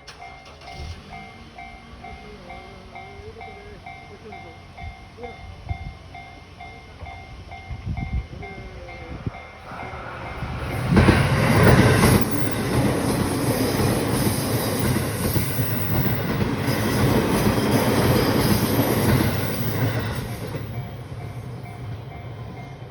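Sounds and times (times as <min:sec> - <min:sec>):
level crossing warning bell: 0:00.0 - 0:22.9
train wheels rumbling on rails: 0:00.0 - 0:22.9.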